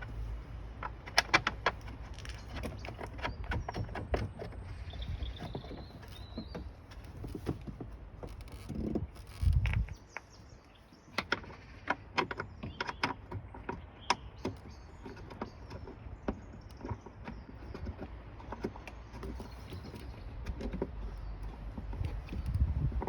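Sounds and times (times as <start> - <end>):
plastic clicks and knocks: 0.0 - 10.4, 11.1 - 23.0.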